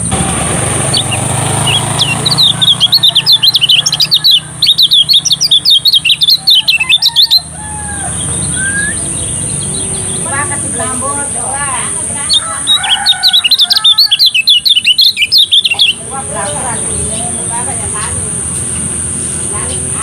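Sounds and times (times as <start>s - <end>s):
bird singing rapid high chirps: 0.0s - 20.0s.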